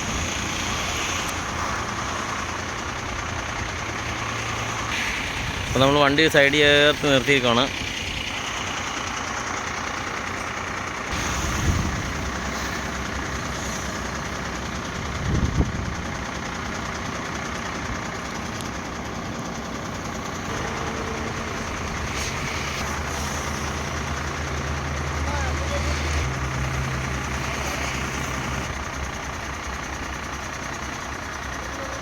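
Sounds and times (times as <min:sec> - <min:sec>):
diesel truck engine idling: 0:00.0 - 0:32.0.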